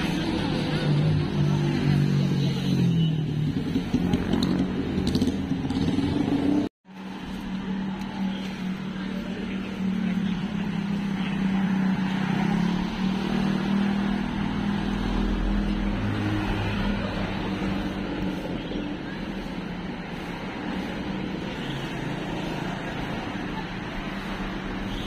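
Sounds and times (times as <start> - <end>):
street traffic: 0.0 - 25.0
vehicle engine humming: 0.0 - 25.0.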